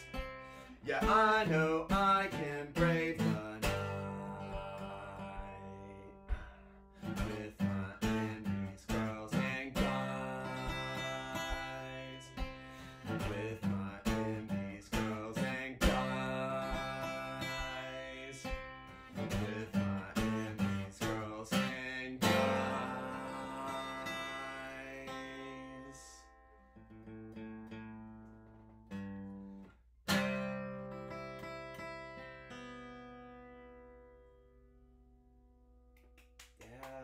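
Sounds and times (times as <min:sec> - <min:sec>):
acoustic guitar strumming: 0:00.0 - 0:35.9.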